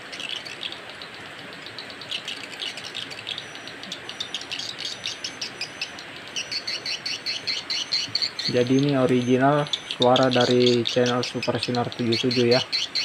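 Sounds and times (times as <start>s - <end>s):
high twittering bird chirps: 0.0s - 13.0s.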